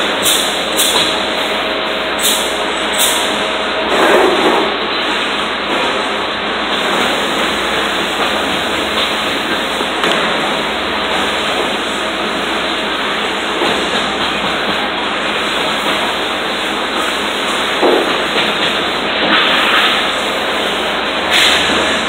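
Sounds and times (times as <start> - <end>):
machinery rushing noise: 0.0 - 22.0.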